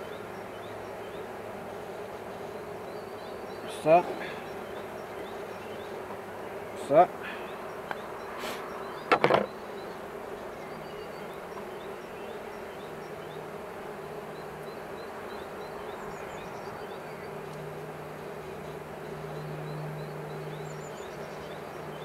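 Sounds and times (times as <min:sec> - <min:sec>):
honeybees humming: 0:00.0 - 0:22.0.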